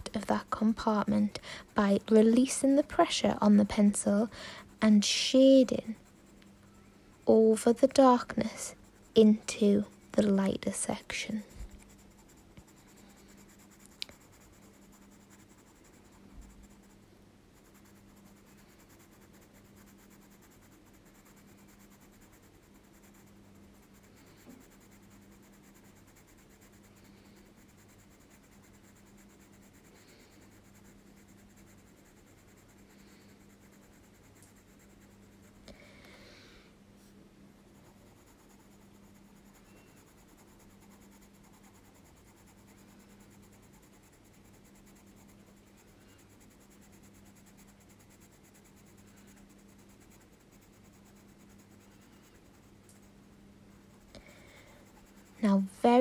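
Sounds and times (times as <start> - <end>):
pencil scratching on paper: 0.0 - 17.0, 17.6 - 35.7, 37.8 - 56.0
steady low hum: 0.0 - 56.0.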